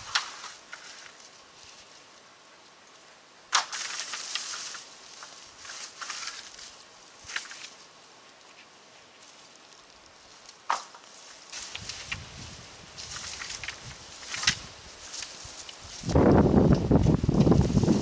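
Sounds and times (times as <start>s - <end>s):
crackling and rustling: 0.0s - 18.0s
steady hiss: 0.0s - 18.0s.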